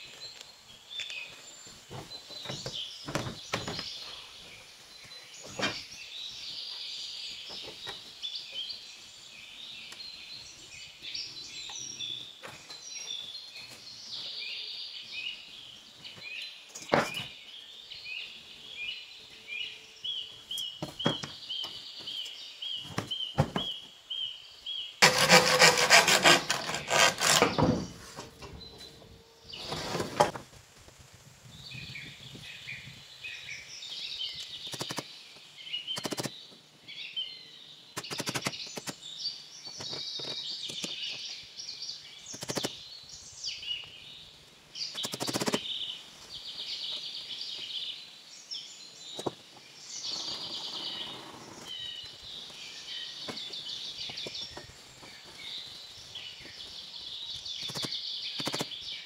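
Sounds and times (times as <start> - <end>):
birds chirping and singing: 0.0 - 30.4, 31.6 - 59.0.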